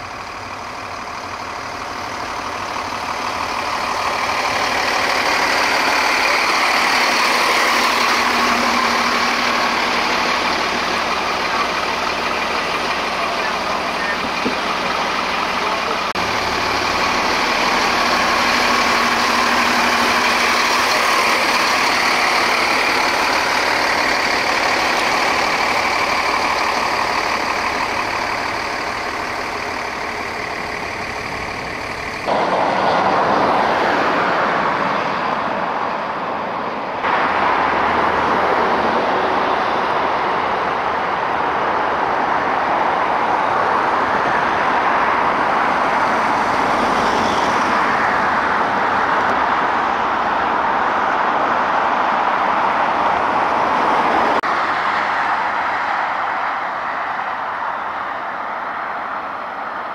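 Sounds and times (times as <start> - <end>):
fire truck loud steady noise: 0.0 - 59.9.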